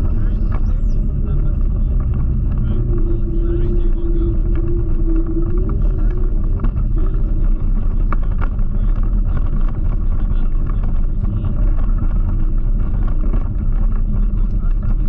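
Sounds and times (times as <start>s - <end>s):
faint steady whine: 0.0s - 15.0s
scooter tyre rumble: 0.0s - 15.0s
wind buffeting microphone: 0.0s - 15.0s.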